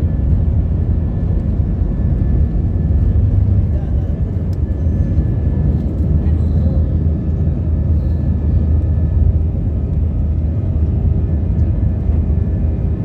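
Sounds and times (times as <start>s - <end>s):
faint engine whine: 0.0s - 13.0s
jet engines rumbling: 0.0s - 13.0s.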